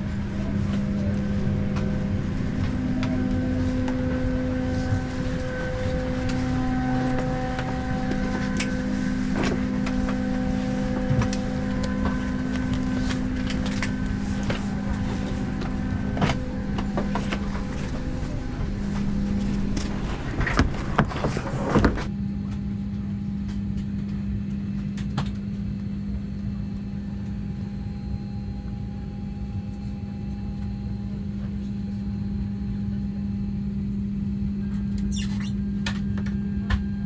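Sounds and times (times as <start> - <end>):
air-conditioning drone: 0.0 - 37.0.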